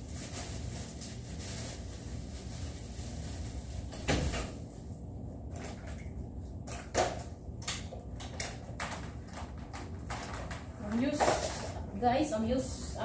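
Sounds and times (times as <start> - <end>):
low steady background hum: 0.0 - 13.0.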